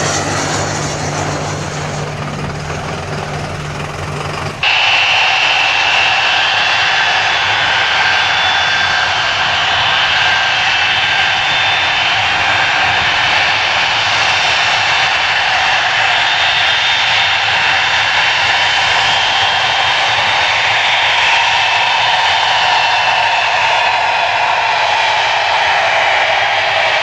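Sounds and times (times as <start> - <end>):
jet engines running loudly: 0.0 - 27.0.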